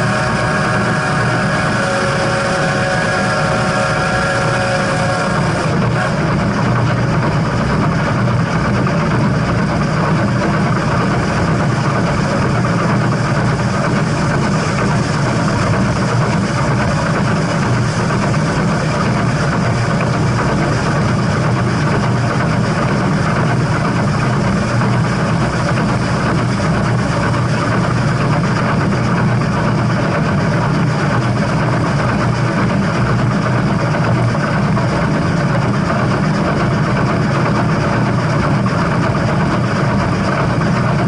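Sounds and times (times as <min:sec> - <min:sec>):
steam train rumbling: 0:00.0 - 0:41.0.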